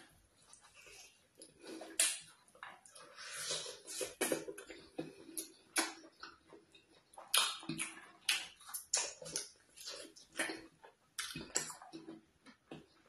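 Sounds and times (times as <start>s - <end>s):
wet eating sounds: 0.5s - 13.0s.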